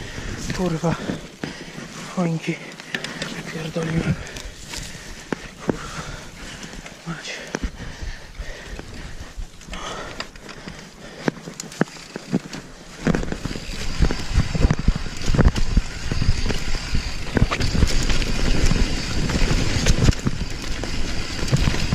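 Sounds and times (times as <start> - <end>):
mountain bike rattling over trail: 0.0 - 21.9.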